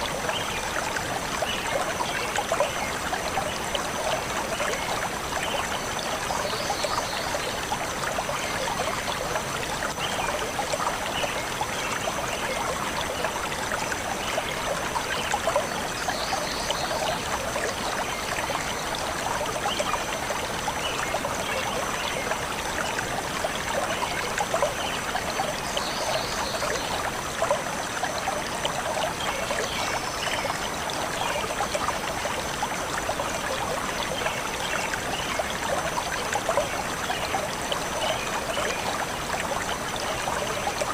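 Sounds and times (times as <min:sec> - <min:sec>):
stream bubbling over rocks: 0:00.0 - 0:40.9.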